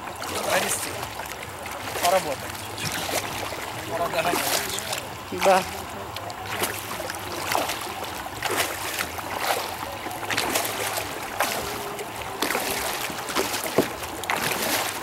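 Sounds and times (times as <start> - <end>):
kayak paddle splashing in water: 0.0 - 15.0
water dripping off paddle: 0.0 - 15.0.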